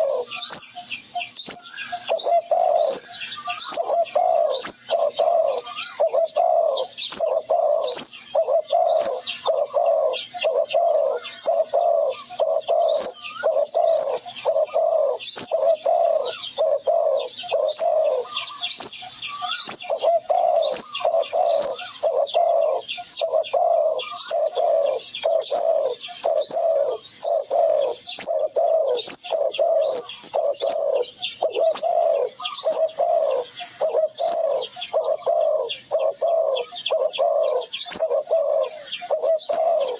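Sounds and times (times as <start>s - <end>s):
high bird chirps: 0.0s - 39.9s
low cooing bird calls: 0.0s - 39.9s.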